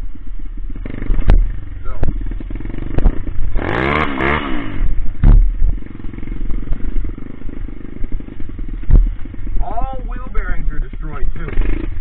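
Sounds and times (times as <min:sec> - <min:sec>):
motorcycle engine revving: 0:00.0 - 0:12.0
engine popping: 0:00.4 - 0:12.0.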